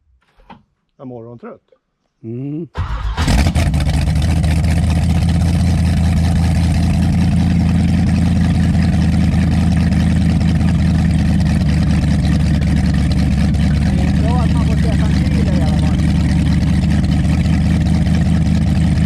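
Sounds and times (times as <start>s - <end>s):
boat engine idling: 3.2s - 19.0s.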